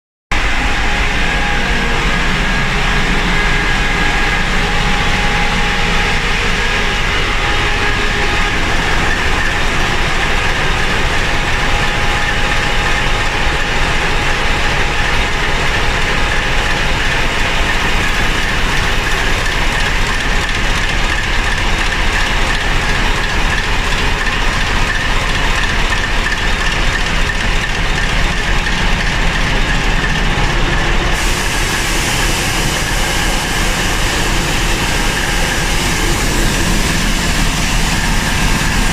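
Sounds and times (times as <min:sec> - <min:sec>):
diesel locomotive engine running: 0:00.3 - 0:38.9.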